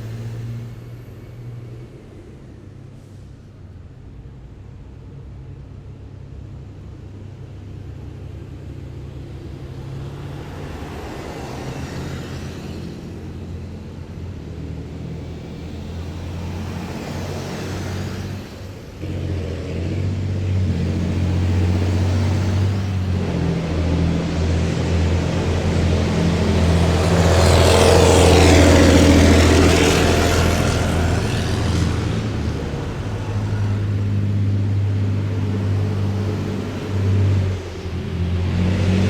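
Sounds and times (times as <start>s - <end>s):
heavy vehicle engines humming: 0.0s - 39.0s
road noise of passing vehicles: 0.0s - 39.0s.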